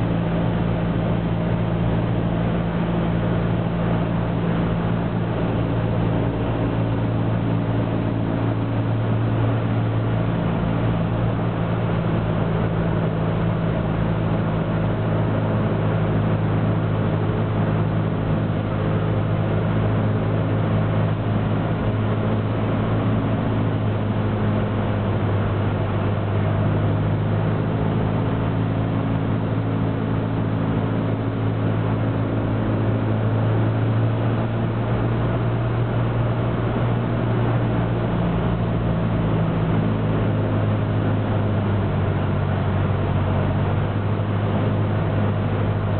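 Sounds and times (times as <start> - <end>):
cockpit airflow noise: 0.0 - 45.9
propeller aircraft engine running: 0.0 - 45.9.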